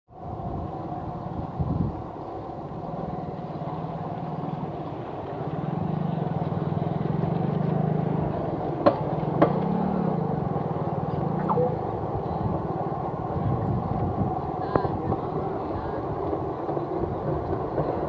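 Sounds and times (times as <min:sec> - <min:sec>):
machinery droning: 0:00.2 - 0:18.0.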